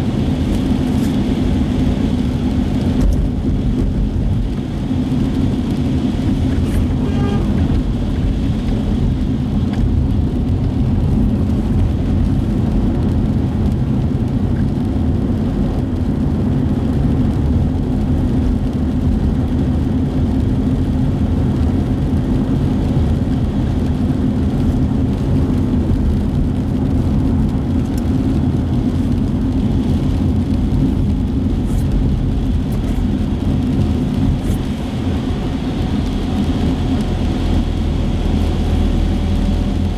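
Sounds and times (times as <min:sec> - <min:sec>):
in-cabin car road noise: 0:00.0 - 0:39.9.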